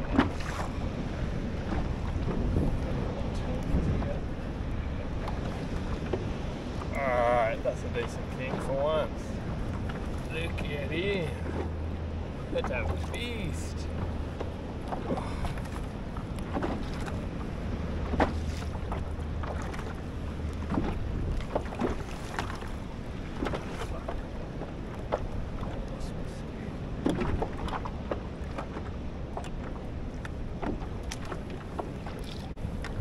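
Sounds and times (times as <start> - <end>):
water lapping on a kayak: 0.0 - 33.0
wind buffeting microphone: 0.0 - 33.0.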